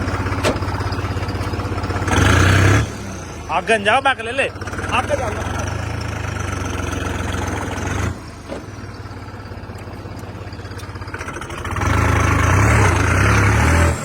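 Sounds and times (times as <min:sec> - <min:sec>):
tractor diesel engine revving: 0:00.0 - 0:14.0.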